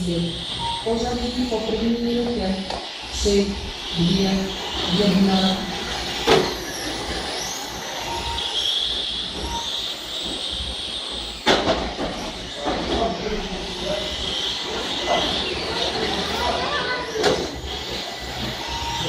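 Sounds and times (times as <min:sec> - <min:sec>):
model truck motors whining: 0:00.0 - 0:19.0.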